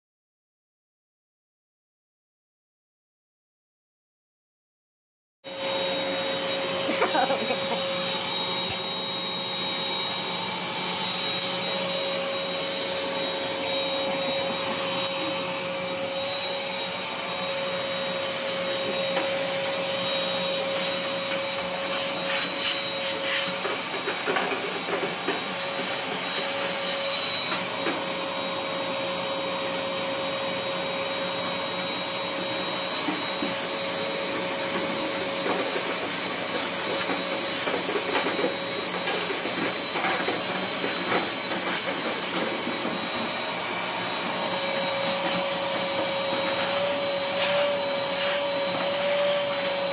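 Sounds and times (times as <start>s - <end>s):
shop vacuum whining: 5.4s - 49.9s.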